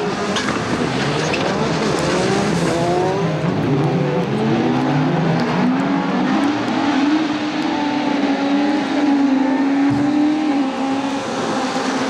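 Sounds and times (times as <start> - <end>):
racing car engines revving hard: 0.0 - 12.0.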